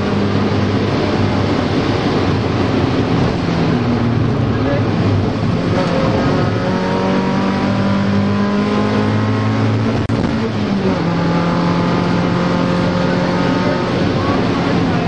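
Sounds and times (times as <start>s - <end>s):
car engine running hard: 0.0s - 15.0s
road and tyre noise: 0.0s - 15.0s.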